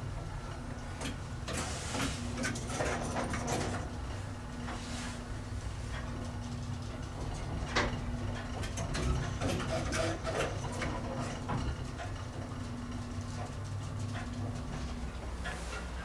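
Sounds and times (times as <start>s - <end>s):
elevator mechanical hum: 0.0s - 16.0s.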